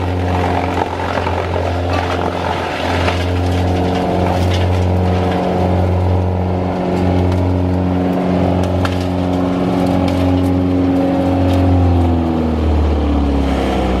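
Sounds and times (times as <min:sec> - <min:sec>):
wood chipper diesel engine running: 0:00.0 - 0:14.0.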